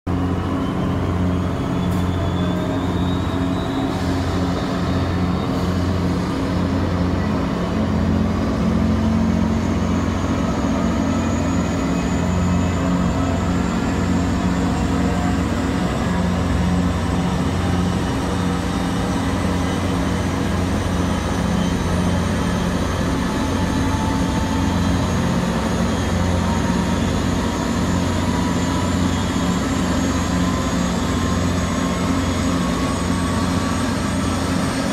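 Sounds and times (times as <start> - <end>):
gas turbine whine spooling up: 0.1 - 34.9
steady low drone: 0.1 - 34.9.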